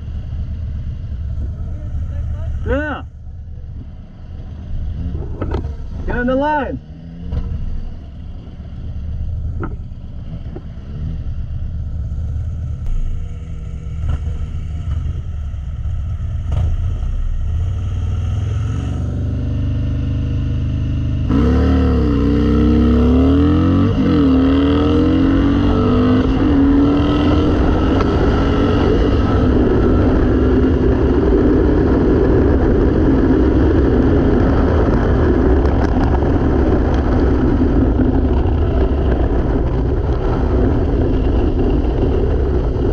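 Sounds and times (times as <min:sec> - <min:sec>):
motorcycle accelerating and shifting: 0:00.0 - 0:42.9
motorcycle engine idling and revving: 0:00.0 - 0:42.9.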